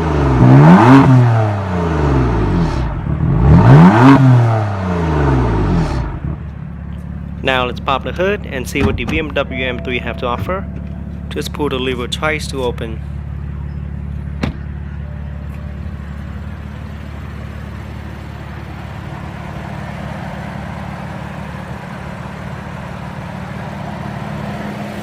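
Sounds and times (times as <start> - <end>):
car engine idling: 4.6 - 25.0.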